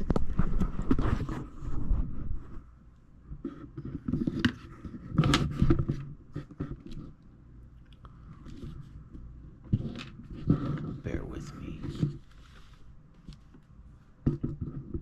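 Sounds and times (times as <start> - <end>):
clicks and scrapes of handling objects: 0.0 - 15.0.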